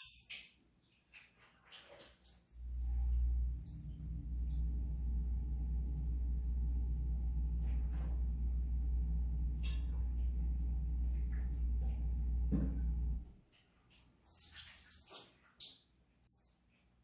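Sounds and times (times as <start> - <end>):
shower water running: 0.0 - 13.3, 13.9 - 16.6.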